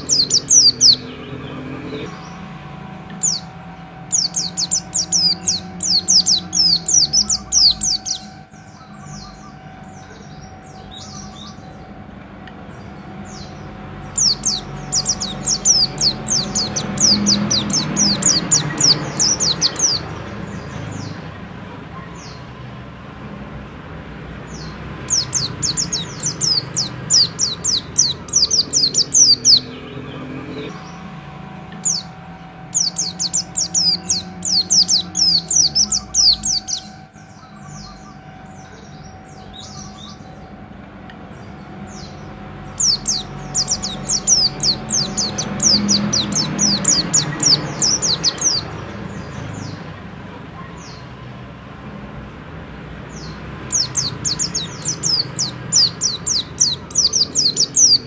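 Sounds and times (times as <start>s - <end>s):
songbird singing high sharp notes: 0.0s - 11.9s, 12.7s - 21.3s, 24.4s - 40.6s, 41.3s - 49.9s, 53.1s - 58.0s.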